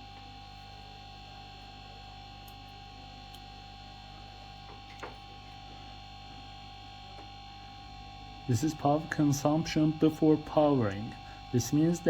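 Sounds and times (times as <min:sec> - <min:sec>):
electrical hum: 0:00.0 - 0:12.0
faint high whine: 0:00.0 - 0:12.0.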